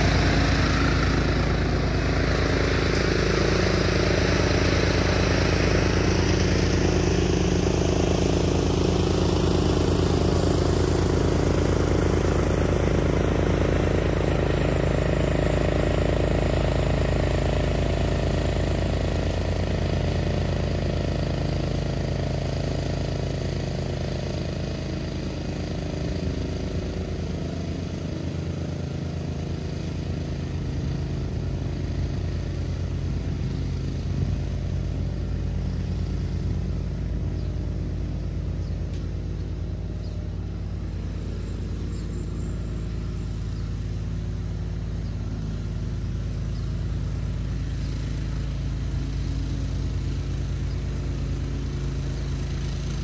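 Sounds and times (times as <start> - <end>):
lawn mower engine cutting grass: 0.0 - 53.0.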